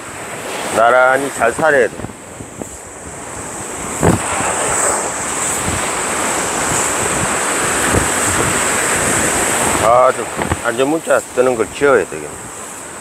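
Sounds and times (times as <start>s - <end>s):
surf breaking on a beach: 0.0s - 13.0s
wind buffeting the microphone: 0.0s - 13.0s.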